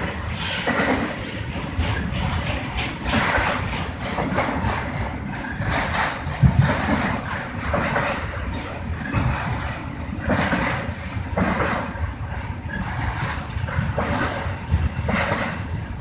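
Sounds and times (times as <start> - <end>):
train cars clunking: 0.0 - 16.0
train wheels rumbling on track: 0.0 - 16.0.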